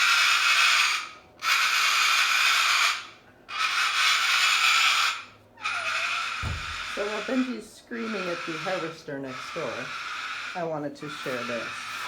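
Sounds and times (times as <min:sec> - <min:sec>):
cockatoo screaming: 0:00.0 - 0:12.0.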